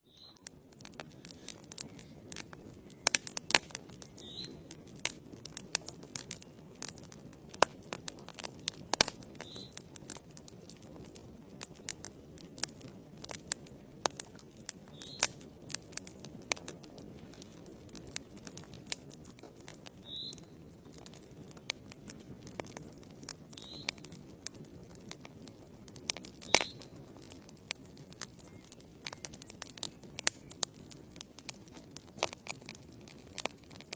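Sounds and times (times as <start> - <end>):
fire crackling and popping: 0.0 - 33.9
logs burning in fireplace: 0.2 - 33.9.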